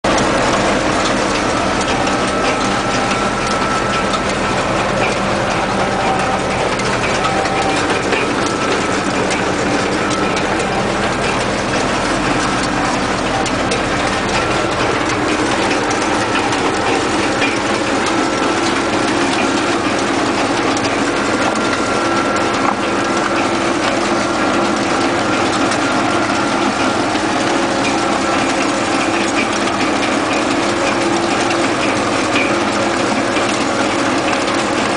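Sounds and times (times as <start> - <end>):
tractor diesel engine running: 0.0 - 34.9
wagon machinery clattering: 0.0 - 34.9.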